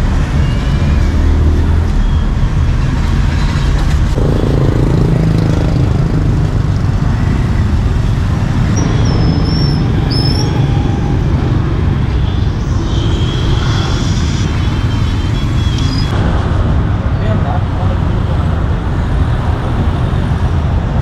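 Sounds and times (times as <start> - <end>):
motorbikes and cars passing: 0.0 - 21.0
street traffic engine rumble: 0.0 - 21.0.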